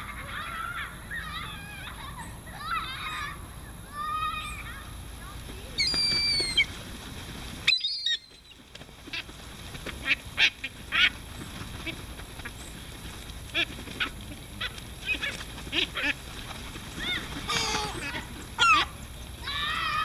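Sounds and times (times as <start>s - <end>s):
gulls calling: 0.0s - 20.0s.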